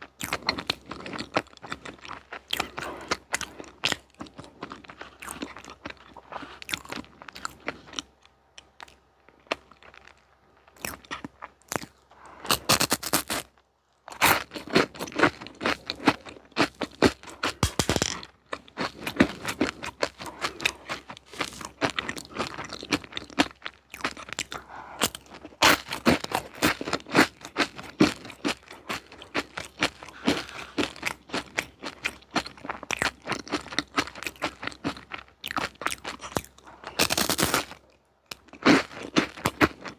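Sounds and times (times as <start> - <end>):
crunchy snack being chewed: 0.0 - 39.9.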